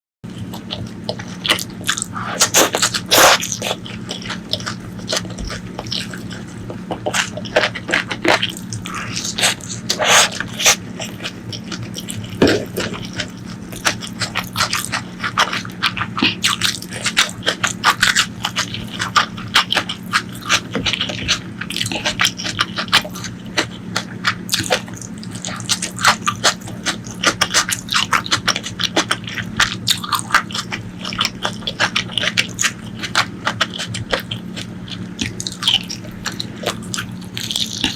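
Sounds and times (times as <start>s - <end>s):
person chewing with mouth smacks: 0.3s - 37.9s.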